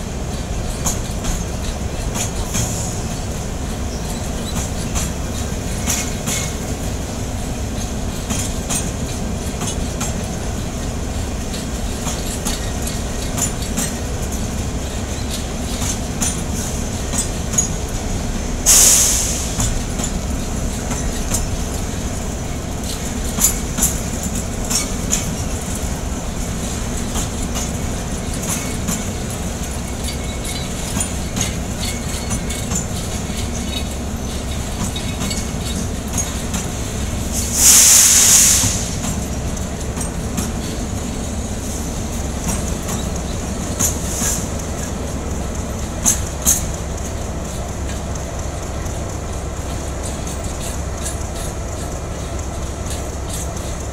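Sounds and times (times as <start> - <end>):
freight wagons rumbling: 0.0 - 53.9
wheel clacks over rail joints: 0.2 - 37.7, 38.6 - 53.9.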